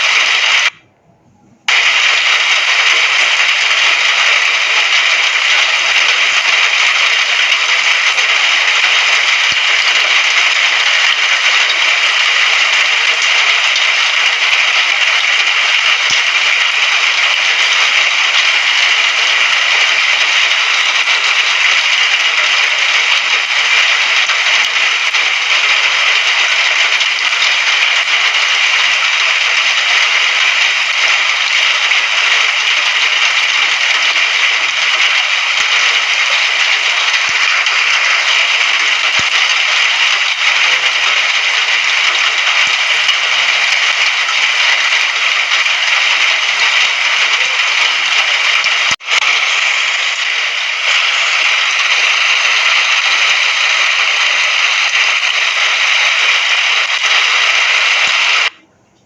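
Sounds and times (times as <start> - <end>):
steady rain falling: 0.0 - 0.8, 1.7 - 58.6.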